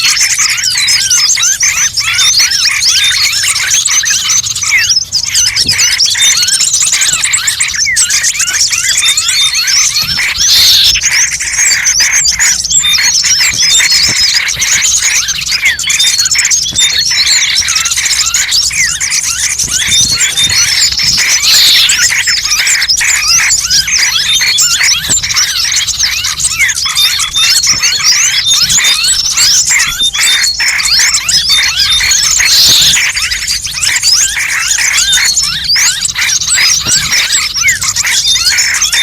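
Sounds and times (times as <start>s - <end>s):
songbirds chirping and twittering: 0.0s - 39.0s.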